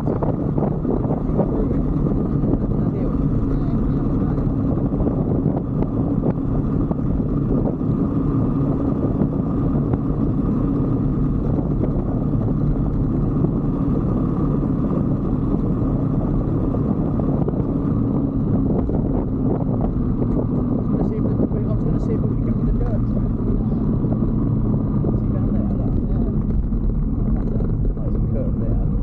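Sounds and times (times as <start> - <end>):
motorbike engine droning: 0.0 - 29.0.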